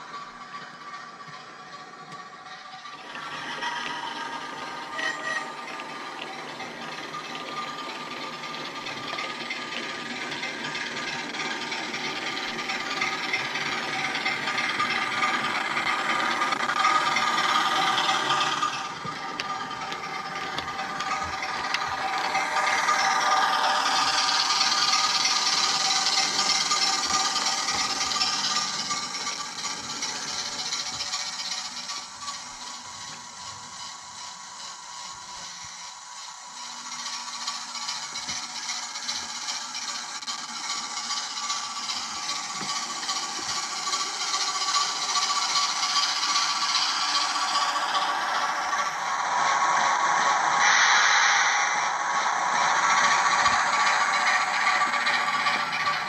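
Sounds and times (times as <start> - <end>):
model train motor whirring: 0.0 - 56.0
wheels rattling on rails: 0.0 - 56.0.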